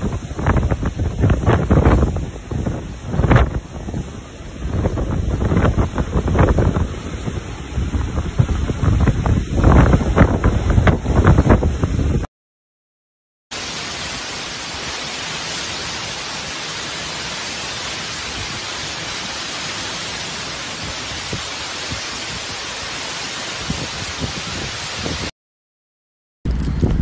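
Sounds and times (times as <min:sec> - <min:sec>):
heavy rain and wind: 0:00.0 - 0:12.3, 0:13.6 - 0:25.3, 0:26.5 - 0:27.0.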